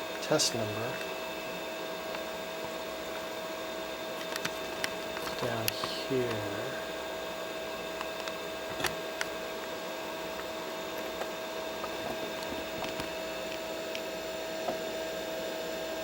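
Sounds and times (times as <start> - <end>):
computer fans humming: 0.0 - 16.0
steady whine: 0.0 - 16.0.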